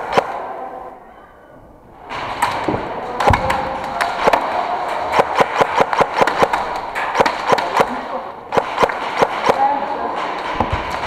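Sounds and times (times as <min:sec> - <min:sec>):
airsoft guns firing: 0:00.0 - 0:00.7, 0:02.0 - 0:11.0.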